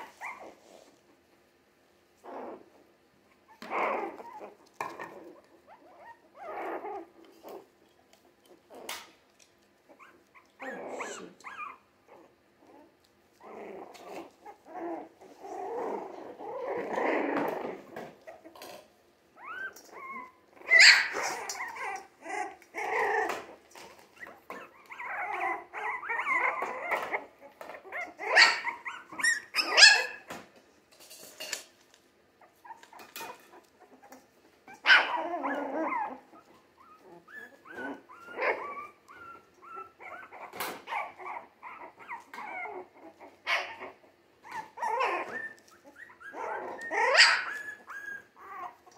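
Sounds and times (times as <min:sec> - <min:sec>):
puppies growling and yipping: 0:00.0 - 0:01.3, 0:02.2 - 0:30.6, 0:32.4 - 0:48.9.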